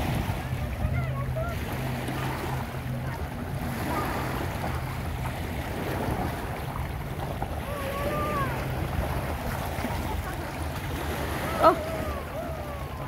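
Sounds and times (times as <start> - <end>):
small waves lapping: 0.0 - 13.0
wind rumbling on microphone: 0.0 - 13.0.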